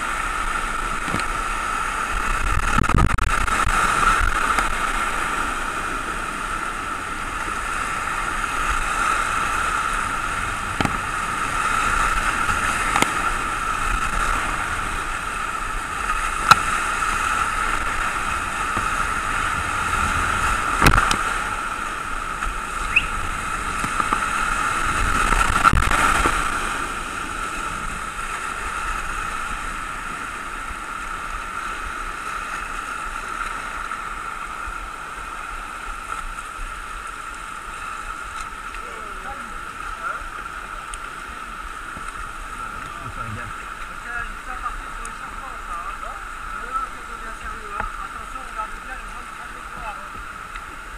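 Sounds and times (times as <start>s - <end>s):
whitewater rapids rushing: 0.0s - 50.9s.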